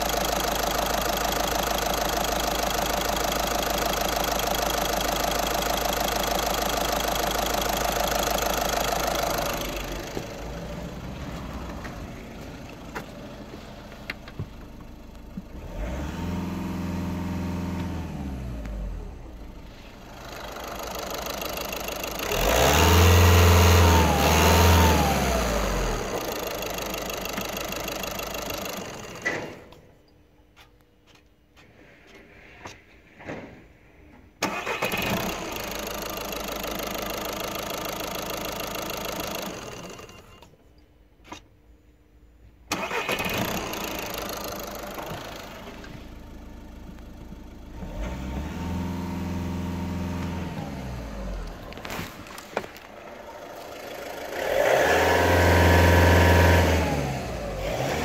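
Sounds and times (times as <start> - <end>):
diesel engine revving and idling: 0.0 - 29.8, 34.4 - 40.5, 42.7 - 58.0.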